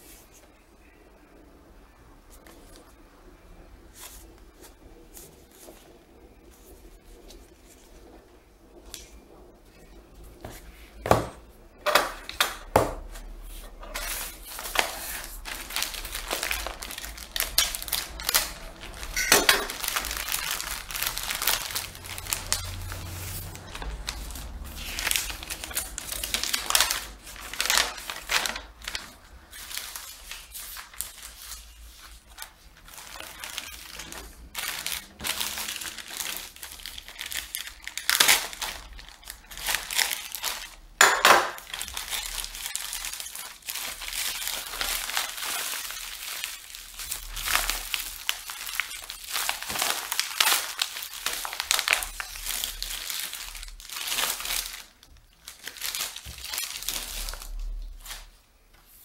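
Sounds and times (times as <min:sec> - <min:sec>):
plastic bags crinkling: 0:08.9 - 0:58.5.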